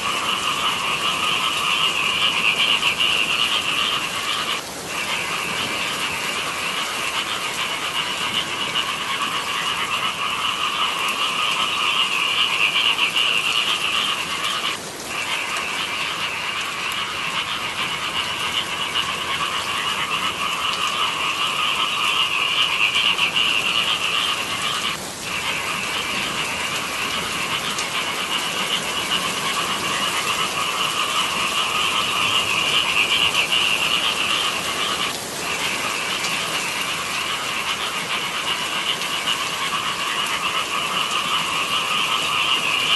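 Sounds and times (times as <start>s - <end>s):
chorus of frogs croaking: 0.0s - 42.9s.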